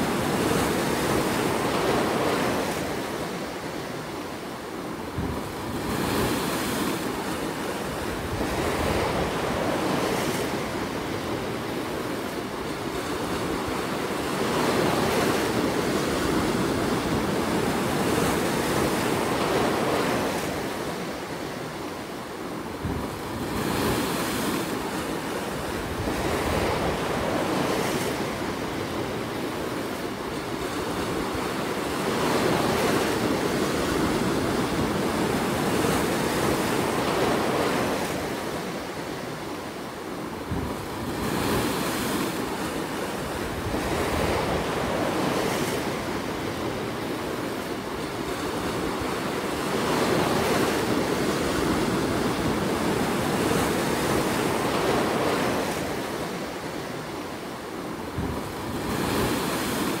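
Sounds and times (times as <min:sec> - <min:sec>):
surf washing over rocks: 0:00.0 - 1:00.0.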